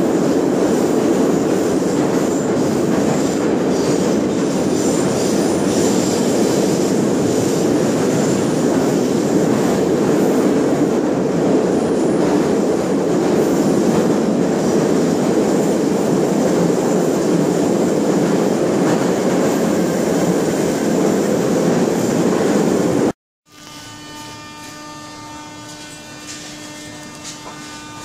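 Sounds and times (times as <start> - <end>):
subway wheels rumbling on rail: 0.0 - 23.2.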